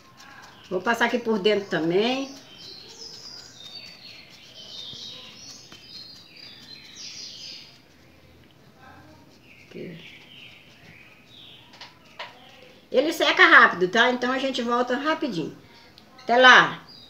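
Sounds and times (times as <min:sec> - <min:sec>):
small birds chirping: 0:00.0 - 0:14.9, 0:15.7 - 0:17.0.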